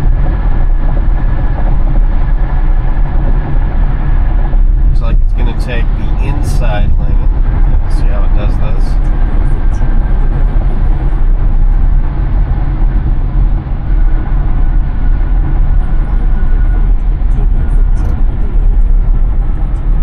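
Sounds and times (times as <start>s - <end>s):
tyre and road rumble: 0.0s - 20.0s
wind rush: 0.0s - 20.0s.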